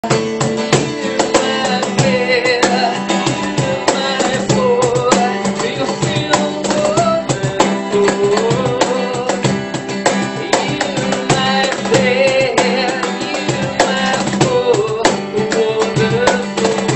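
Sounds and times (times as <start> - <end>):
acoustic guitar strumming: 0.0 - 16.9
hand percussion beat: 0.0 - 16.9
man singing: 0.0 - 16.9.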